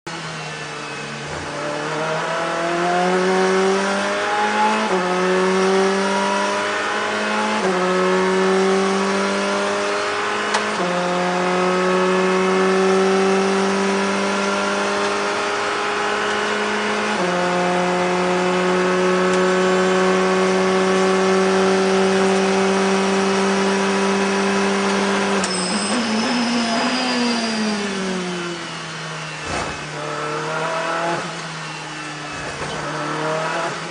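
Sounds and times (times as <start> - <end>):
racing car engine at full throttle: 0.1 - 33.9.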